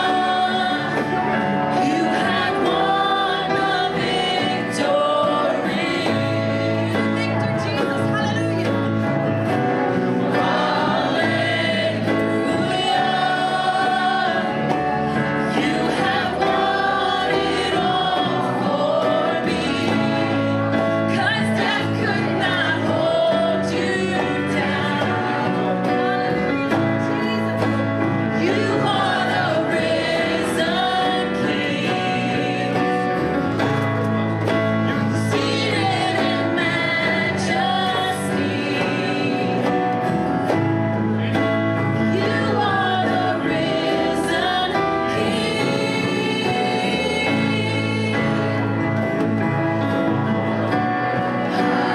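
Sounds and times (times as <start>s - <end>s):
gospel choir singing with instruments: 0.0s - 51.9s.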